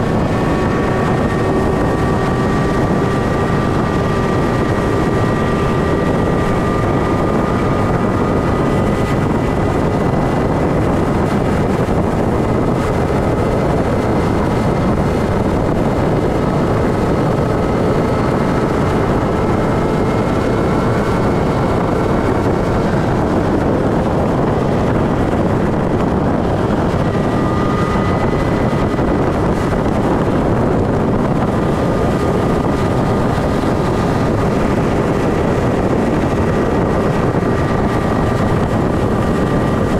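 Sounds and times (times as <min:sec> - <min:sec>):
motorcycle engine and wind rush: 0:00.0 - 0:39.9.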